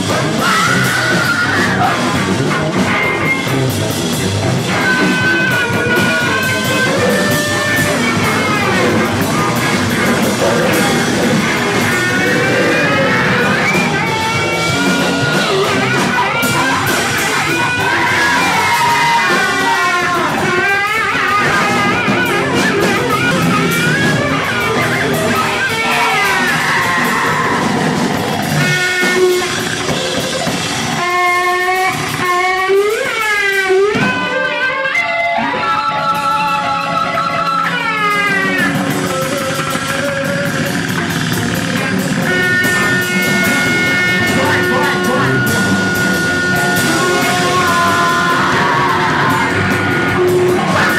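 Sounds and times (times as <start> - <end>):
live band playing: 0.0 - 50.9
swooping pitched tones: 0.1 - 32.5, 34.0 - 50.9.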